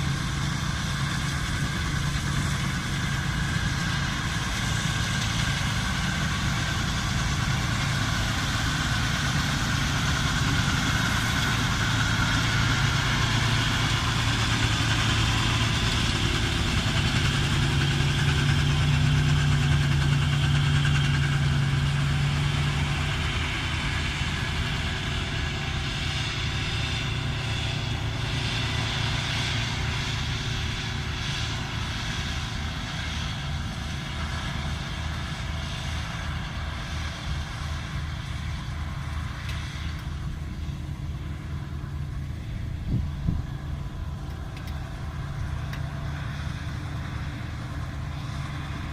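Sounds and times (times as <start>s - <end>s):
combine harvester engine hum: 0.0s - 48.9s
machinery clatter and rustle: 0.0s - 48.9s.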